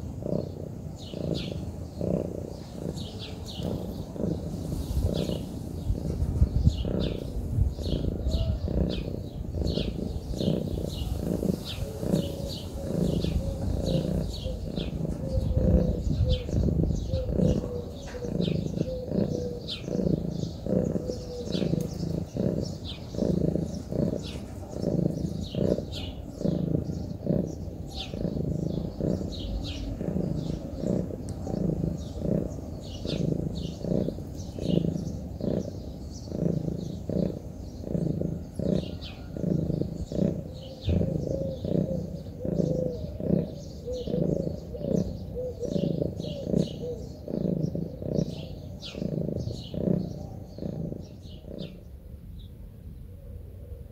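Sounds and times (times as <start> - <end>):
cat low rhythmic pulsing: 0.0 - 52.3.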